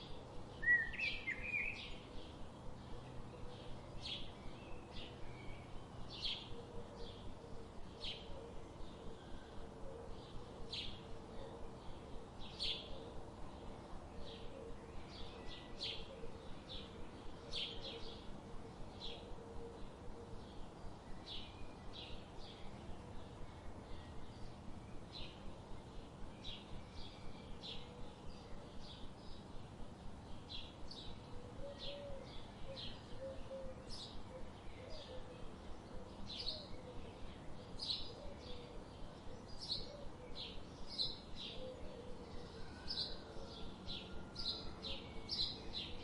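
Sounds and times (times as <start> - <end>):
faint background hiss: 0.0 - 46.0.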